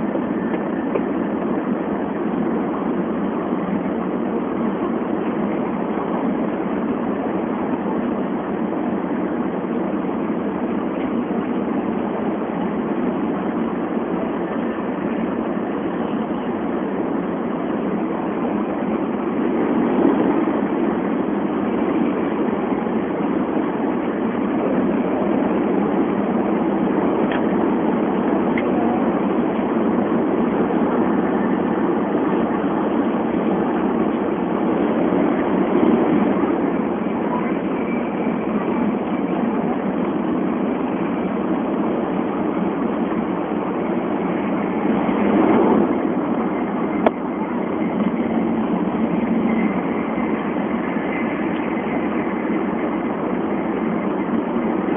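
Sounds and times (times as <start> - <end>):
train running noise from inside: 0.0 - 54.9.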